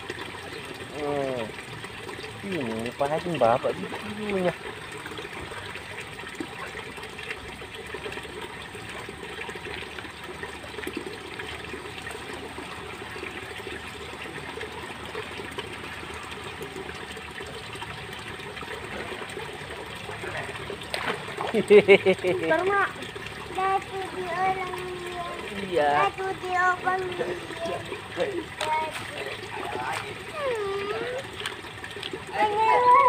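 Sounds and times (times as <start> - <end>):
fountain spraying water: 0.0 - 33.0.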